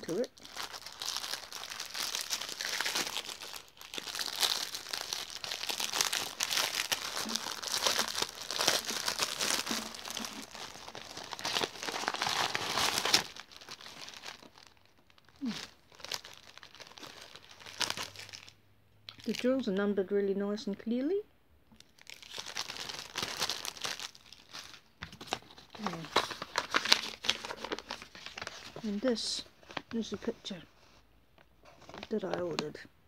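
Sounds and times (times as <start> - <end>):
plastic bags crinkling: 0.0 - 18.5, 19.1 - 19.5, 21.8 - 30.2.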